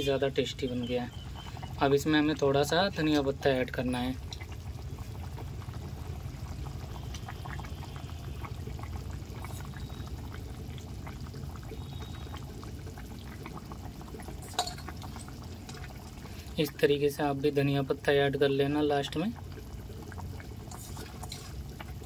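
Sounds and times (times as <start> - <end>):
curry bubbling in a pot: 0.0 - 22.0.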